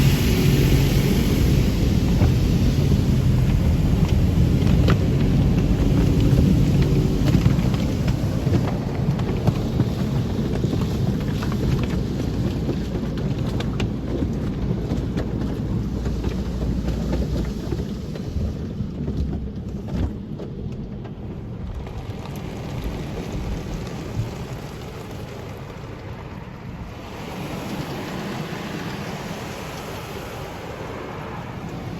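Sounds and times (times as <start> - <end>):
low machinery rumble: 0.0 - 29.6
water spraying on a car: 0.0 - 31.9.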